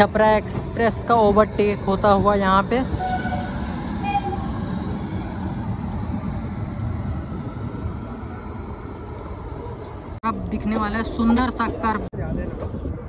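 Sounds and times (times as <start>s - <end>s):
passenger train rumbling at speed: 0.0s - 13.0s.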